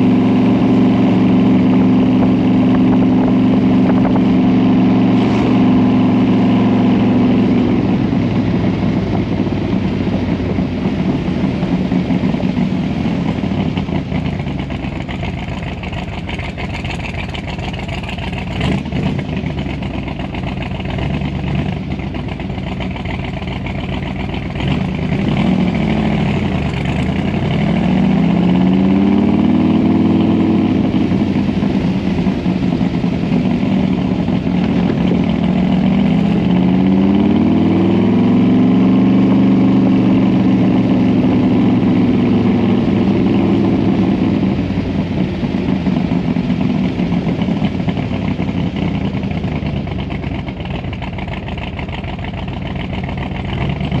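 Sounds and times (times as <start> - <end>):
car engine while driving: 0.0 - 54.0.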